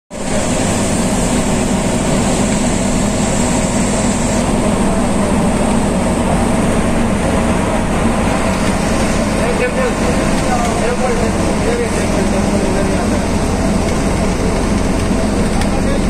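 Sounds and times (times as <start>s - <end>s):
boat engine droning: 0.1s - 16.0s.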